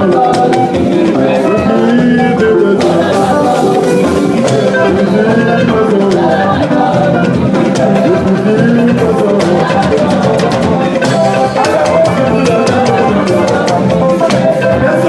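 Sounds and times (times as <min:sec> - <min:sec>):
choir singing: 0:00.0 - 0:15.0
church instruments and drums playing: 0:00.0 - 0:15.0.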